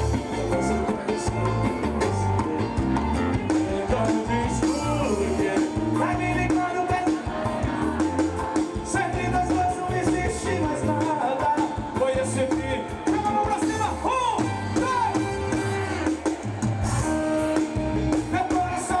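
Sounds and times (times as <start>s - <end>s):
band music with singing: 0.0s - 19.0s.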